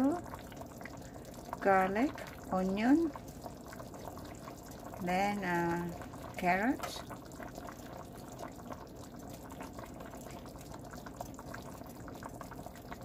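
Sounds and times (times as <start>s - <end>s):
stew bubbling in a pot: 0.0s - 13.0s.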